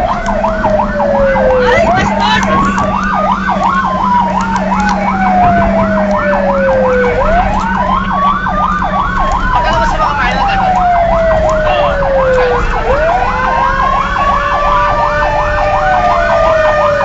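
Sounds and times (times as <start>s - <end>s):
steady low drone: 0.0s - 16.3s
fire engine sirens: 0.0s - 17.0s.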